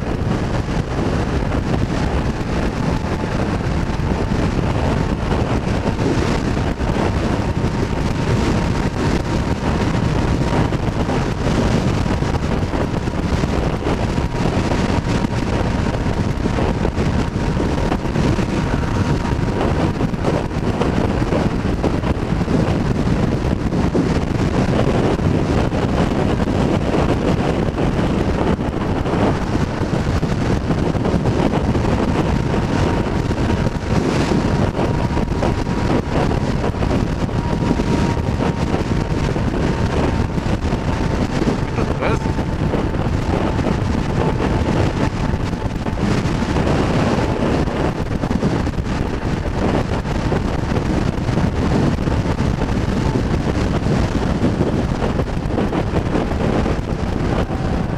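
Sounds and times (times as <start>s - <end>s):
motorcycle engine running: 0.0s - 57.9s
wind rushing over microphone: 0.0s - 57.9s.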